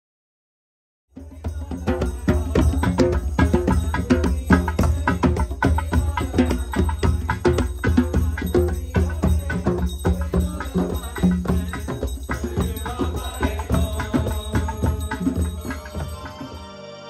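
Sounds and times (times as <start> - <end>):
hand drums in quick rhythm: 1.2 - 16.6.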